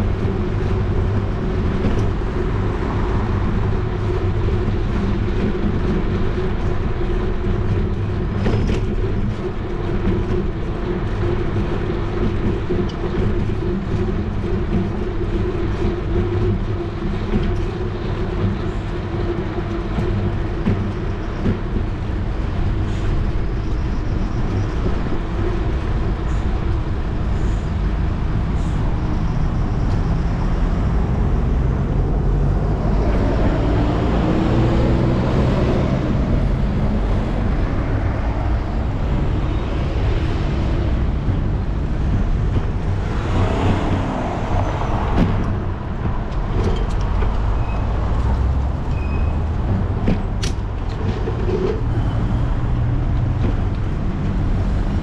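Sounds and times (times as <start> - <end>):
passing vehicles: 0.0 - 55.0
wind on microphone: 0.0 - 55.0.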